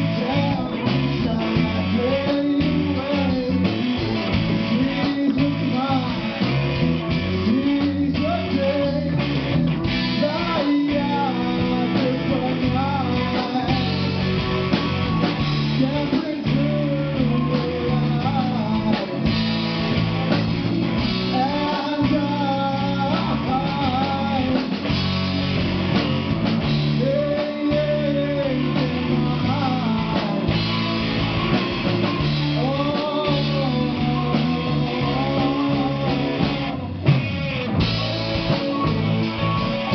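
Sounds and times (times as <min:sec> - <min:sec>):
person singing: 0:00.0 - 0:25.0, 0:26.6 - 0:39.9
drum kit: 0:00.0 - 0:39.9
electric guitars: 0:00.0 - 0:39.9.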